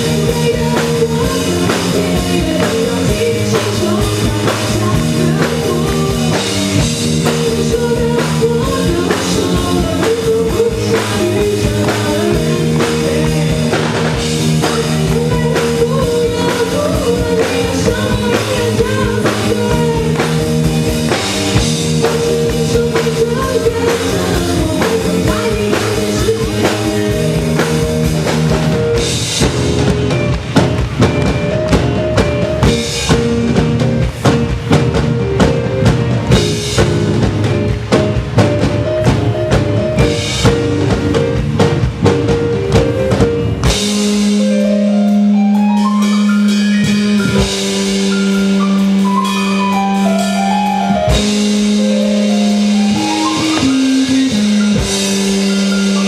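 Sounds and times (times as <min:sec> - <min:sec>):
bass line: 0:00.0 - 0:56.0
drum kit beat: 0:00.0 - 0:56.0
keyboard chords: 0:00.0 - 0:56.0.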